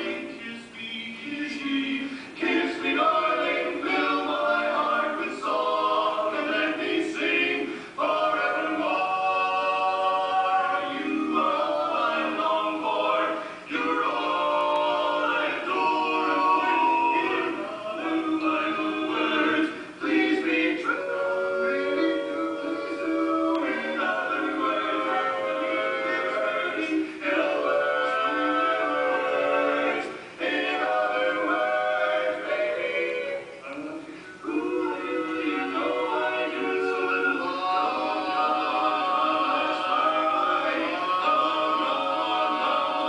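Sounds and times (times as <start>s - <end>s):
male voices singing in harmony: 0.0s - 43.0s.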